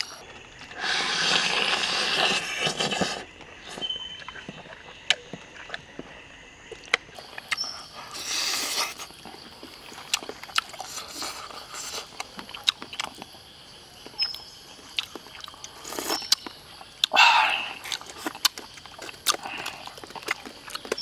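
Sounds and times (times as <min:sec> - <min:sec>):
chewing: 0:00.0 - 0:21.0.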